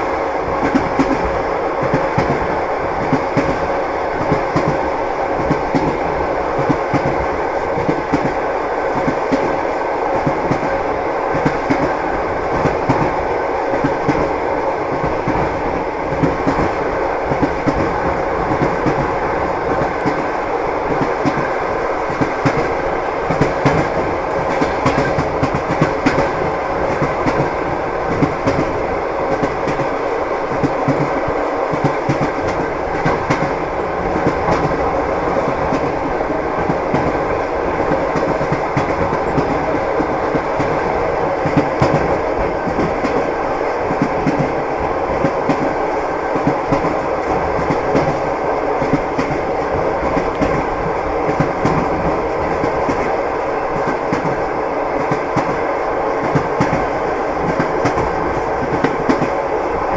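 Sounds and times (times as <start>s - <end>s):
train rumble: 0.0s - 59.9s
train wheels clacking over rail joints: 0.6s - 59.9s.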